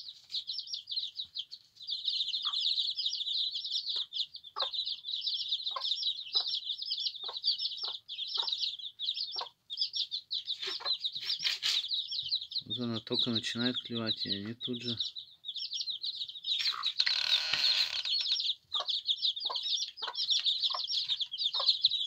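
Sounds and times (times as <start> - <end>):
chicks peeping: 0.0 - 22.0
hen clucking: 0.0 - 22.0.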